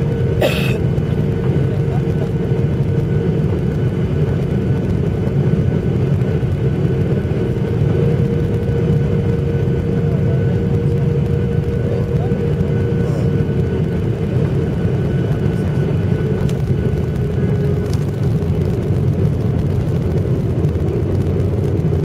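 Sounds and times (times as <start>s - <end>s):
airliner cabin rumble: 0.0s - 22.0s
constant whine: 0.0s - 22.0s.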